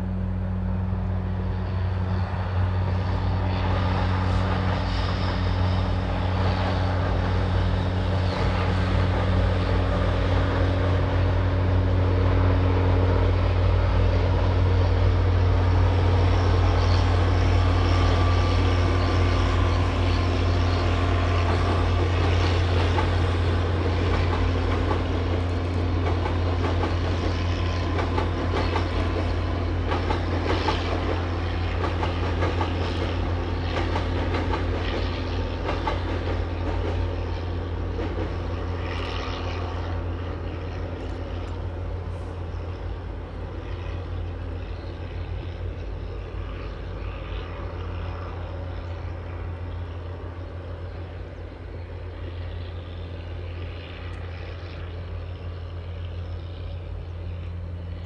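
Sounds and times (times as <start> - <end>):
locomotive engine drone: 0.0 - 58.0
train wheels rumbling on rails: 0.0 - 58.0.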